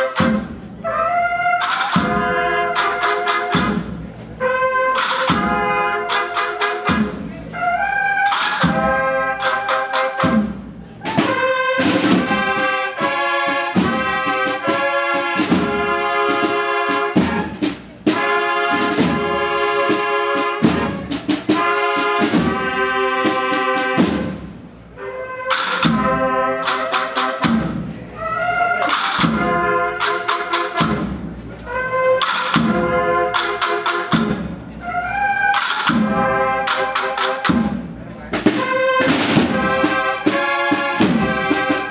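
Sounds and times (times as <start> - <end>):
bugles sounding chords: 0.0 - 41.9
drum strokes: 0.0 - 41.9.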